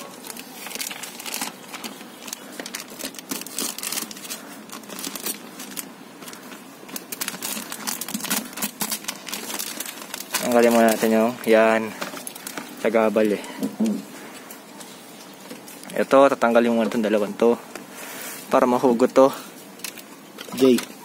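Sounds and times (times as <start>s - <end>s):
small clicks and crinkling: 0.0s - 21.0s.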